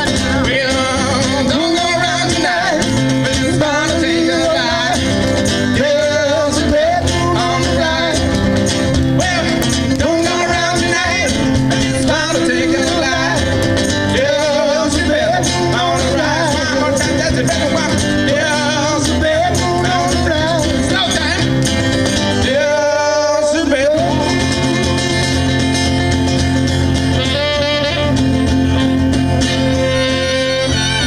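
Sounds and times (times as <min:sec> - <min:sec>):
bending lead melody: 0:00.0 - 0:22.5, 0:24.1 - 0:31.0
acoustic guitar: 0:00.0 - 0:31.0
bass: 0:00.0 - 0:31.0.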